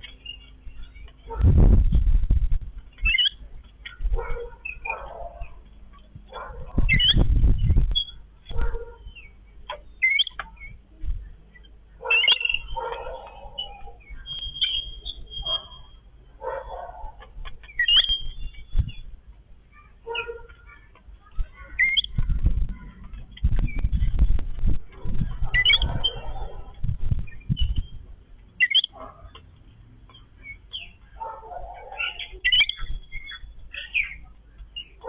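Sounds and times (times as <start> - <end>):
low rumbling noise: 0.0 - 28.6
birds chirping and chattering: 0.0 - 35.0.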